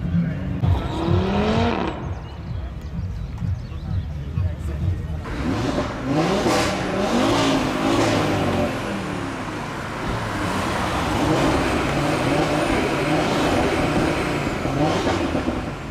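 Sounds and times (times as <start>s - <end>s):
car engine accelerating: 0.0s - 2.8s, 4.9s - 15.9s.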